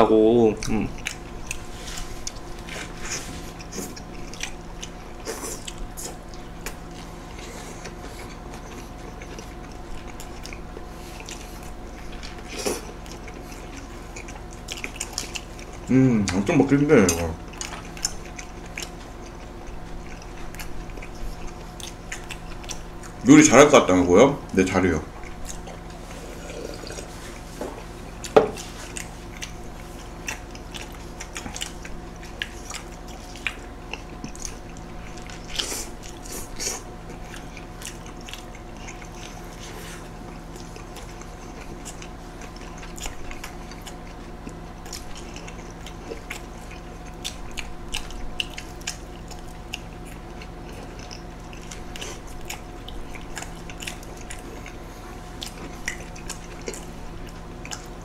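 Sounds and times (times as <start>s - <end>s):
biting and chewing food: 0.0s - 58.0s
steady low hum: 0.0s - 58.0s.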